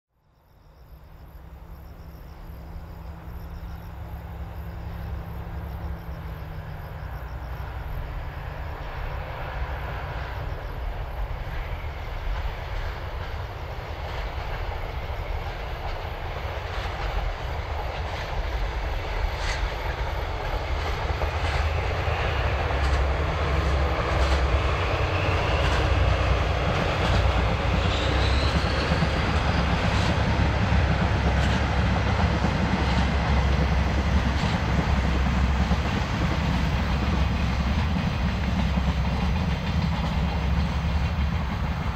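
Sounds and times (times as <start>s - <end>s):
diesel locomotive engine: 0.4s - 41.9s.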